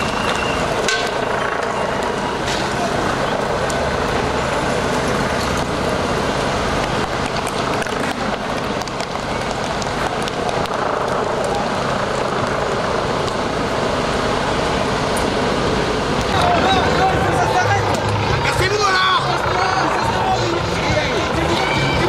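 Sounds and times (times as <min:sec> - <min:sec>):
street rumble and hiss: 0:00.0 - 0:22.0.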